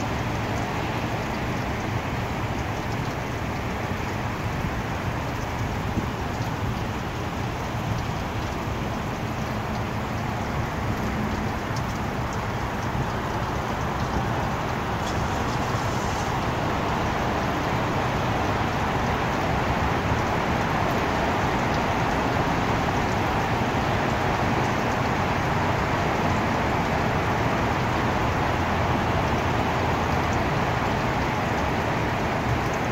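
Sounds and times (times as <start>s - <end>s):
urban traffic noise: 0.0s - 32.9s.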